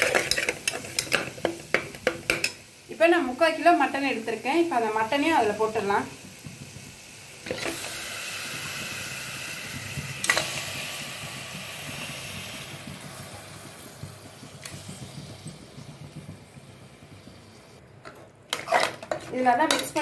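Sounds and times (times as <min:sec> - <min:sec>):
meat sizzling in hot oil: 0:00.0 - 0:17.8.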